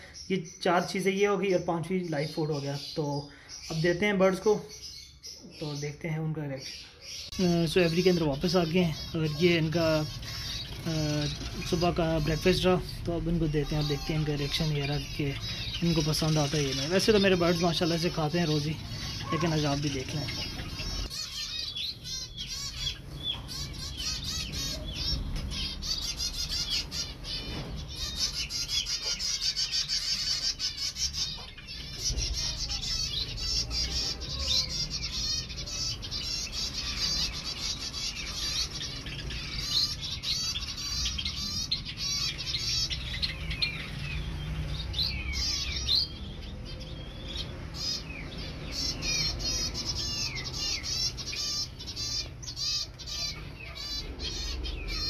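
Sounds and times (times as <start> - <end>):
finches chirping: 0.0 - 55.0.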